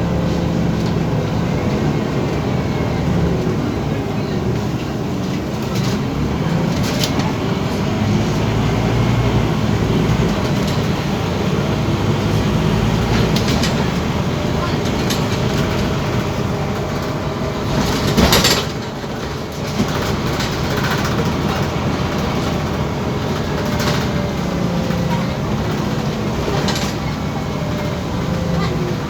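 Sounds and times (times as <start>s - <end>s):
bus body rattling: 0.0s - 29.0s
bus engine and road noise: 0.0s - 29.0s.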